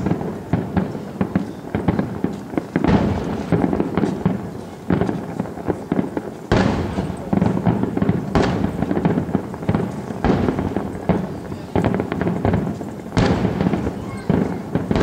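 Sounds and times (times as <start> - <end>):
fireworks booming: 0.0 - 15.0
fireworks crackling: 0.0 - 15.0
rumble of fireworks: 0.0 - 15.0.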